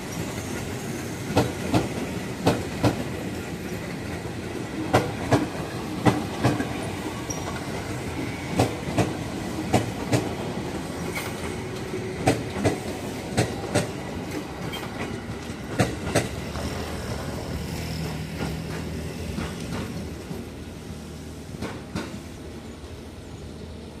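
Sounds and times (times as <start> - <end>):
electric train rumbling past: 0.0 - 24.0.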